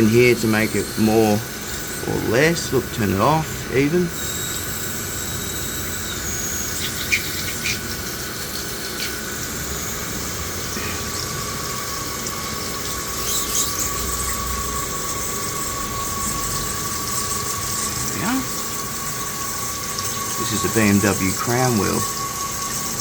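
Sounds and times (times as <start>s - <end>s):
coolant liquid hissing: 0.0s - 23.0s
machine high whine: 0.0s - 23.0s.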